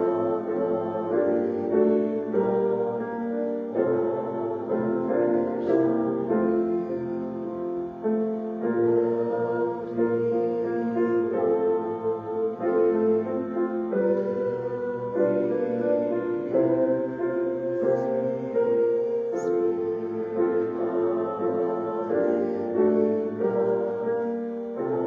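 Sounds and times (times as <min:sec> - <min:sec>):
congregation singing a hymn: 0:00.0 - 0:25.0
piano accompaniment: 0:00.0 - 0:25.0.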